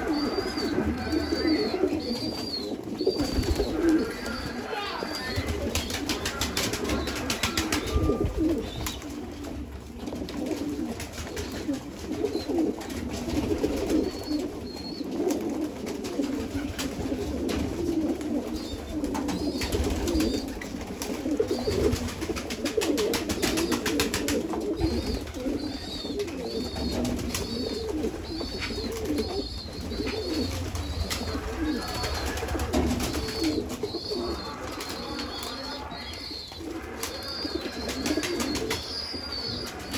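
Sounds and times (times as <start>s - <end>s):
pigeons cooing: 0.0s - 39.9s
pigeons pecking: 0.0s - 39.9s.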